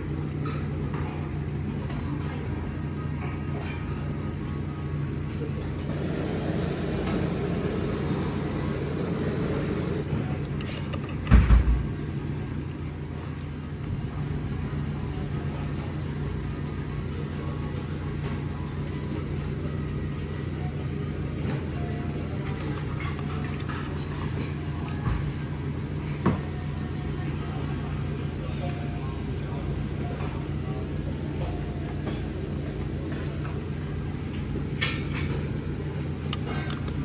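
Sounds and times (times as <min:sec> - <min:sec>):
restaurant room hum: 0:00.0 - 0:37.0.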